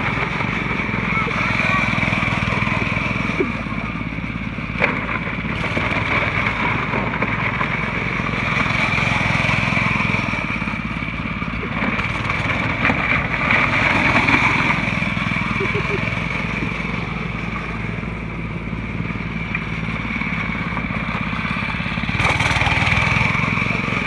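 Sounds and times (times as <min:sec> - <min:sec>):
go-kart engine running: 0:00.0 - 0:24.0
tyres on gravel: 0:00.0 - 0:24.0.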